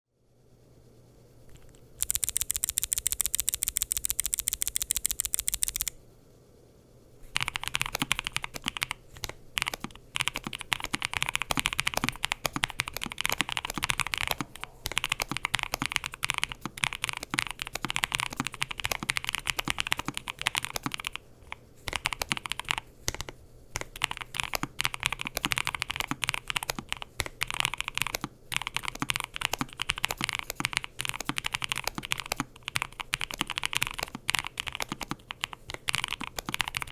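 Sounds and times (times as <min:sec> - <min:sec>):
typing on mechanical keyboard: 0:02.0 - 0:06.0, 0:07.3 - 0:36.9.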